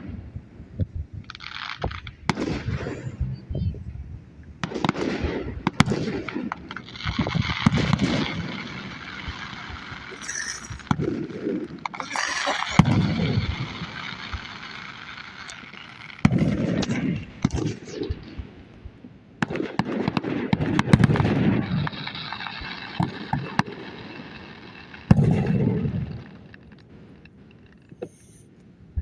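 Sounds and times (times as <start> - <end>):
fireworks crackling and fizzing: 0.0 - 3.6, 4.5 - 28.6
fireworks booming: 0.0 - 28.2.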